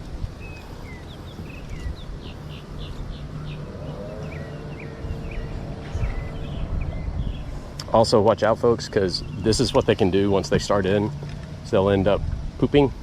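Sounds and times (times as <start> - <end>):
small birds chirping: 0.0 - 12.9
faint steady drone: 0.0 - 13.0
low outdoor rumble: 0.0 - 13.0.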